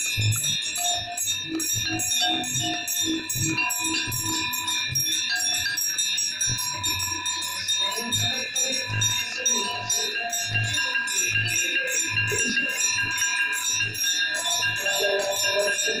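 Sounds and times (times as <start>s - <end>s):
bells ringing fast: 0.0s - 16.0s.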